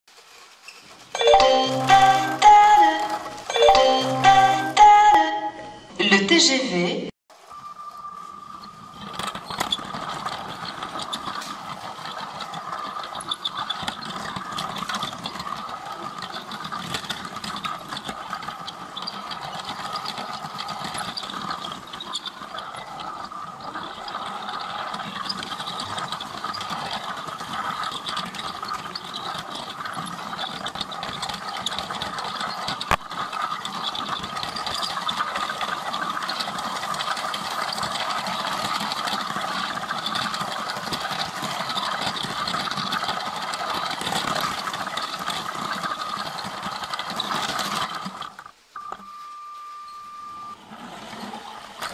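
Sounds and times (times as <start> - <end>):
gear and wheel rattle: 0.1 - 1.2, 8.1 - 48.9, 50.0 - 51.9.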